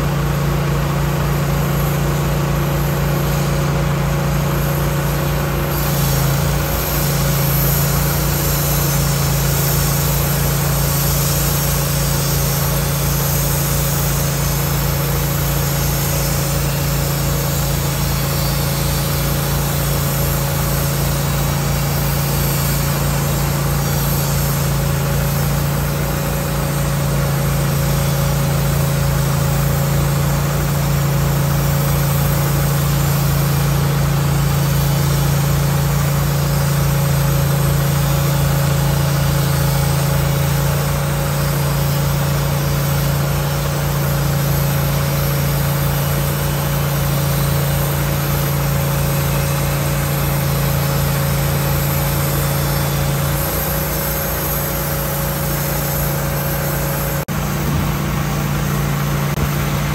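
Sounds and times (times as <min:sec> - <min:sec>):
sawmill engine running under load: 0:00.0 - 0:59.9.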